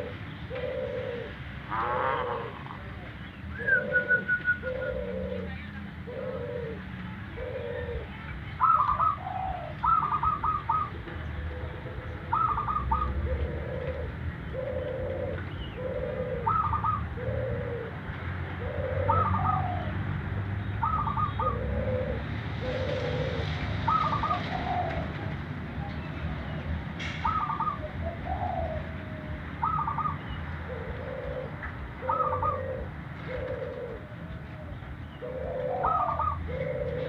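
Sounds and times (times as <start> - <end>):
dove cooing: 0.0 - 25.5, 26.3 - 37.0.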